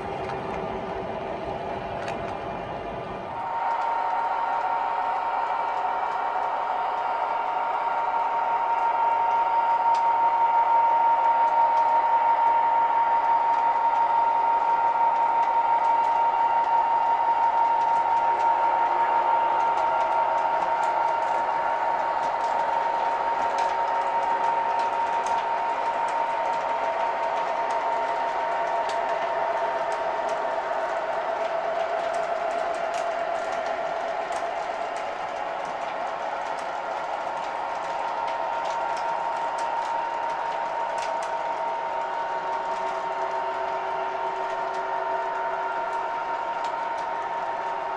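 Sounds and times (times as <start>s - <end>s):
model train motor whine: 3.4s - 47.9s.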